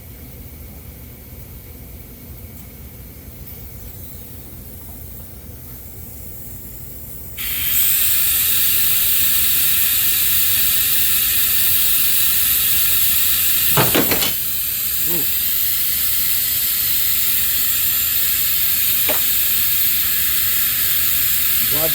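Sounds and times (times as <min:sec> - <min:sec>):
compressed air hissing: 0:04.0 - 0:21.9.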